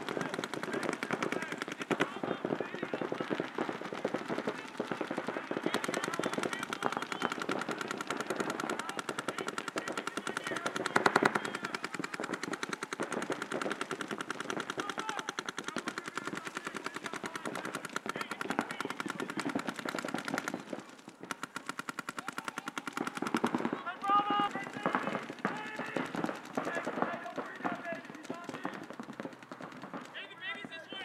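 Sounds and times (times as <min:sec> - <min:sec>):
paintball markers firing rapidly: 0:00.0 - 0:31.0.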